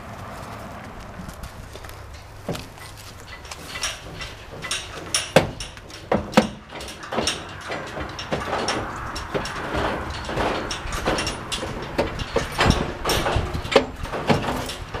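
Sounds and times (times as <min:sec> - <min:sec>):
horse hooves in trailer: 0:00.0 - 0:15.0.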